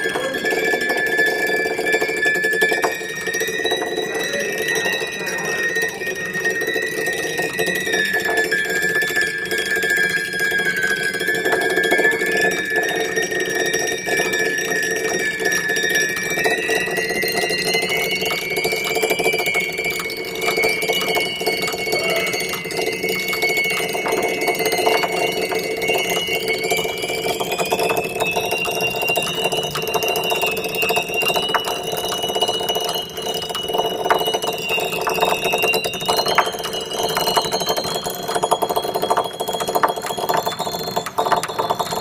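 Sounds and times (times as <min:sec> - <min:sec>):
vibrator buzzing on piano strings: 0:00.0 - 0:42.0.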